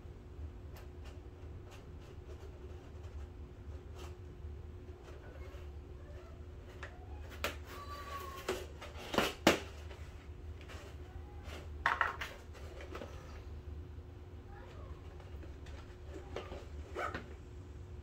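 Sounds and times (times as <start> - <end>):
steady low hum: 0.0 - 7.2, 8.5 - 18.0.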